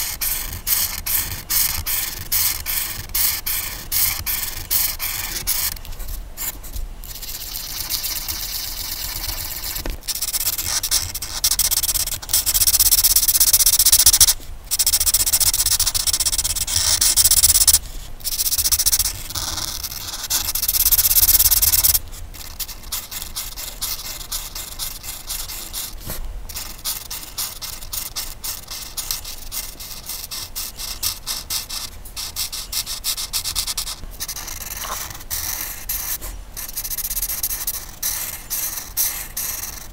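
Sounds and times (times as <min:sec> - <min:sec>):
colouring tool scratching on paper: 0:00.0 - 0:39.9.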